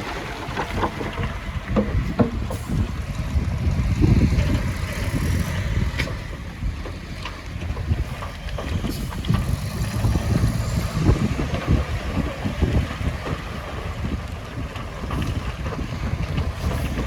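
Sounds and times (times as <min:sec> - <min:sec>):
diesel engine running: 0:00.0 - 0:17.0
wind buffeting microphone: 0:00.0 - 0:17.0.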